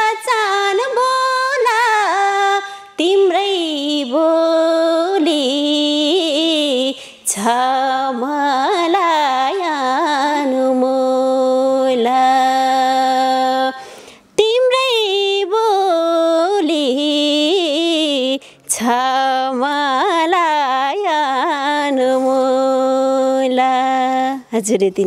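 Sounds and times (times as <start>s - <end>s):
woman singing unaccompanied: 0.0s - 13.8s, 14.4s - 25.0s.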